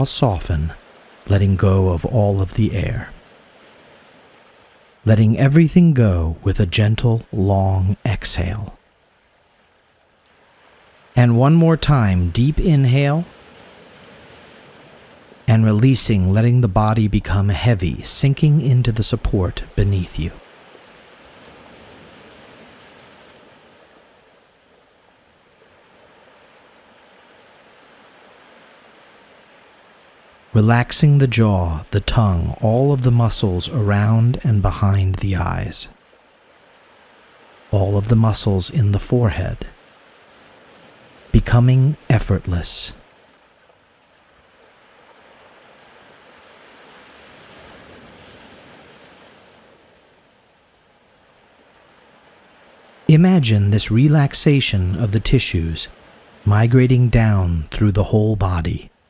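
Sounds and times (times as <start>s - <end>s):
ocean waves washing: 0.0s - 59.0s.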